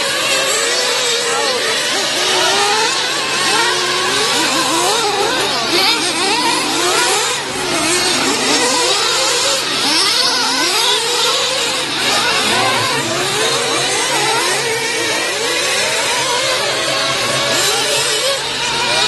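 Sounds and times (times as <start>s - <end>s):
model car engines revving: 0.0s - 19.0s.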